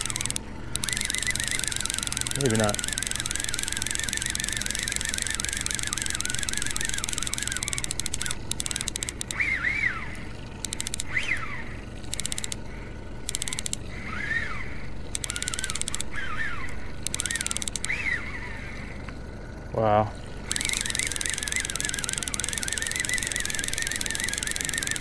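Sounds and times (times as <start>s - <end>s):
fast even clicking: 0.0s - 9.5s, 10.6s - 13.9s, 15.0s - 18.0s, 20.3s - 25.0s
birds calling: 0.0s - 25.0s.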